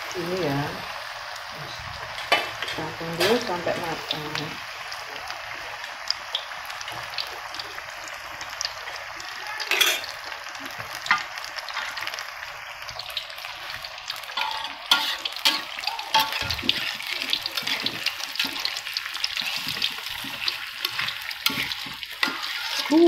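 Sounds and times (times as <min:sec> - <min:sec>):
deep-frying sizzle: 0:00.0 - 0:23.0.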